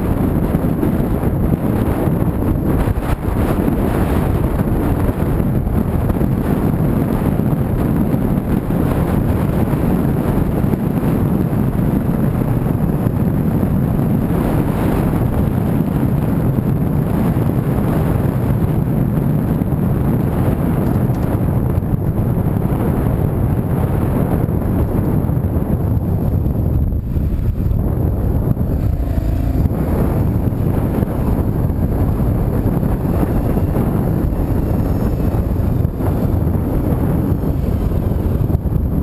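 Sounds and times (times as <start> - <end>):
road and engine rumble: 0.0 - 39.0
wind buffeting microphone: 0.0 - 39.0.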